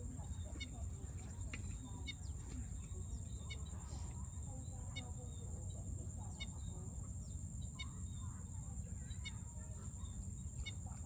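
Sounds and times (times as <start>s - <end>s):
crickets chorus: 0.0s - 11.0s.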